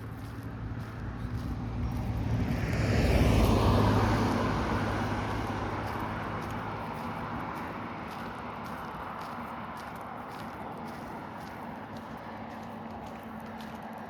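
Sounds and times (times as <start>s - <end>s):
vehicle driving past: 0.0s - 14.0s.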